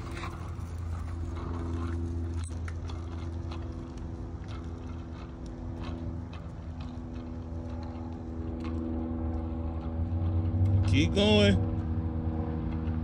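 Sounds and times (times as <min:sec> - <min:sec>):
faint ticks and clicks: 0:00.0 - 0:11.9
steady mechanical hum: 0:00.0 - 0:13.0.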